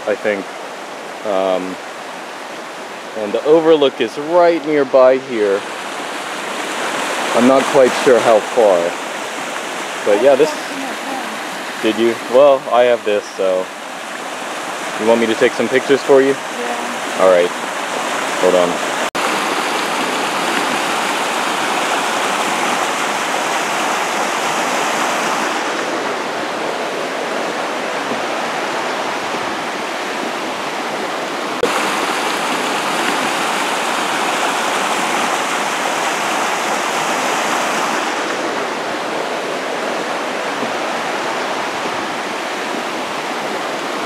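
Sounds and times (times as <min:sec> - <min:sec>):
creek rushing over rocks: 0:00.0 - 0:44.0.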